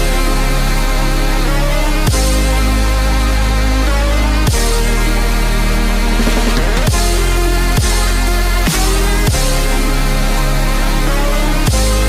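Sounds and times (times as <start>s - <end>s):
dubstep dance music with heavy bass: 0.0s - 12.0s.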